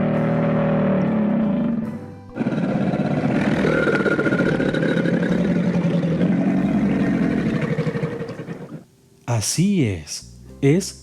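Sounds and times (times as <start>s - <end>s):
crocodile growling: 0.0s - 8.8s.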